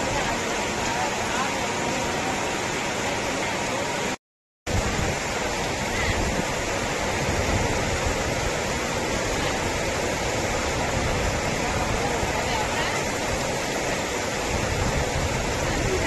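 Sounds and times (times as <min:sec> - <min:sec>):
heavy rain on pavement: 0:00.0 - 0:16.0.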